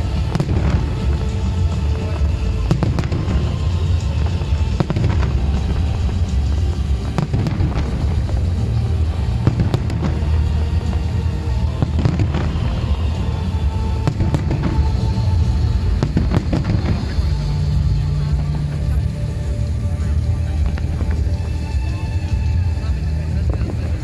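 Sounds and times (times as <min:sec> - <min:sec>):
fireworks bursting: 0:00.0 - 0:24.0
music playing: 0:00.0 - 0:24.0.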